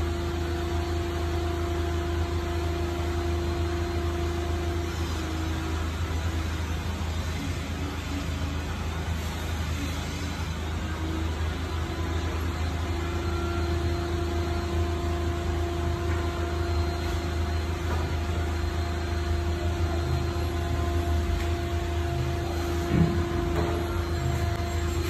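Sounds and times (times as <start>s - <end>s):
motor humming: 0.8s - 25.0s.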